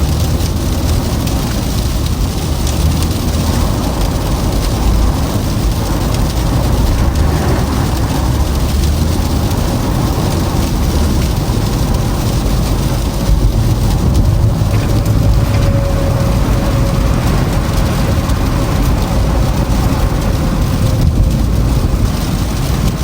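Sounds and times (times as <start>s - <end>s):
car cabin road rumble: 0.0s - 23.0s
tyres hissing on snow: 0.0s - 23.0s.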